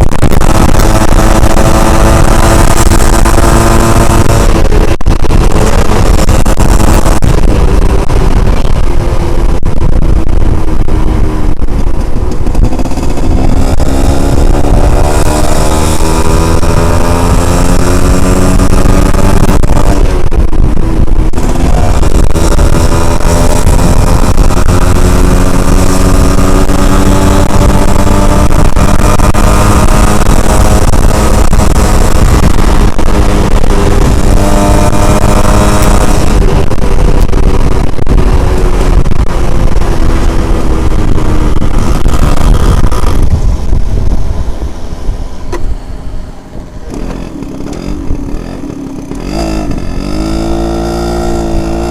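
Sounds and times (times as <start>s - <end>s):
two-stroke motorcycle engine running: 0.0s - 51.9s.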